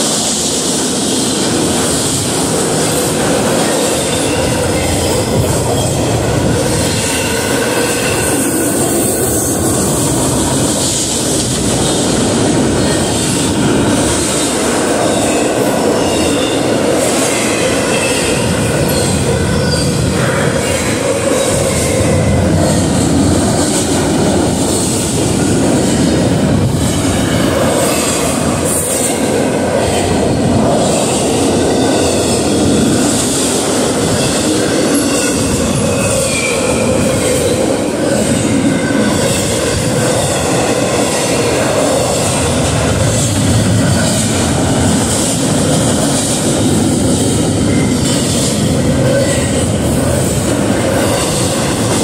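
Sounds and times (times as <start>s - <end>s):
freight train passing: 0.0s - 52.0s.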